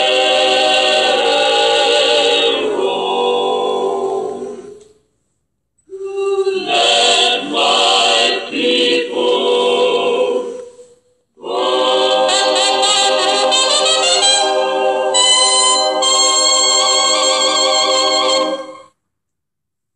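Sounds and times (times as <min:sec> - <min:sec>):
toy speaker playing choir singing: 0:00.0 - 0:04.8, 0:05.9 - 0:10.6, 0:11.4 - 0:18.8.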